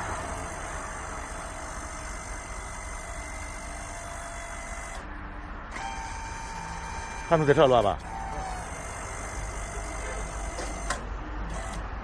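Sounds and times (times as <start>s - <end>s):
faint steady whine: 0.0s - 11.8s
tractor engine rumble: 0.0s - 12.0s.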